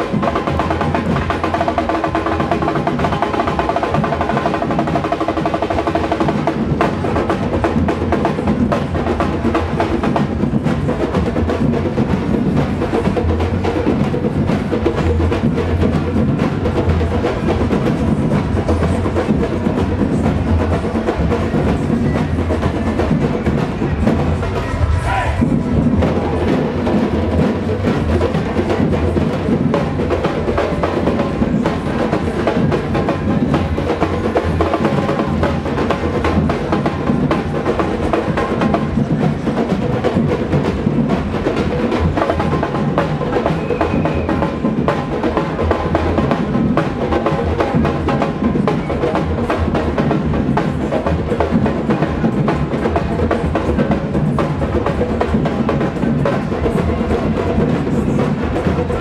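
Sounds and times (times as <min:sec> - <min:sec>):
drum band playing: 0:00.0 - 0:59.0.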